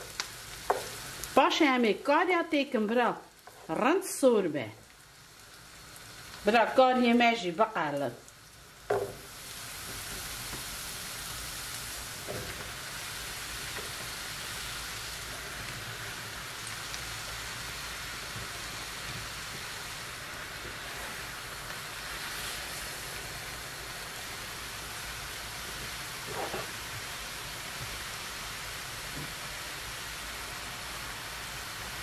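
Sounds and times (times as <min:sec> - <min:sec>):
vegetables sizzling in a frying pan: 0:00.0 - 0:32.0.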